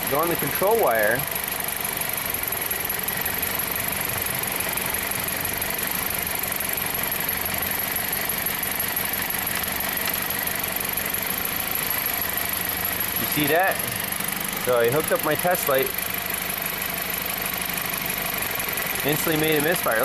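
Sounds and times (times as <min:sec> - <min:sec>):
car engine idling with misfire: 0:00.0 - 0:20.0.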